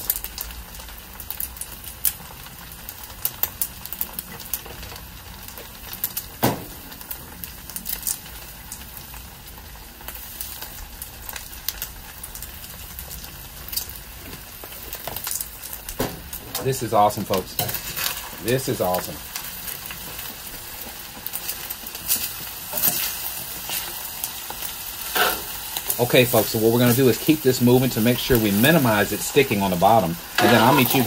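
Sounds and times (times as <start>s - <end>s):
crackles and pops: 0.0s - 26.6s
stir fry sizzling in a hot pan: 0.0s - 31.0s.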